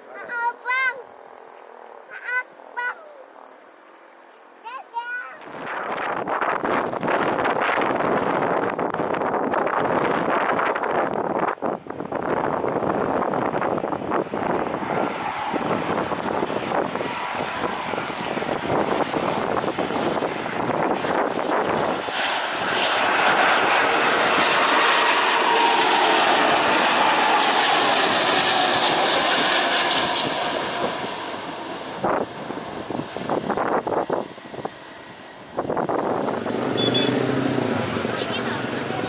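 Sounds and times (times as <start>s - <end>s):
jet airliner passing low: 0.0s - 4.8s, 5.4s - 39.0s.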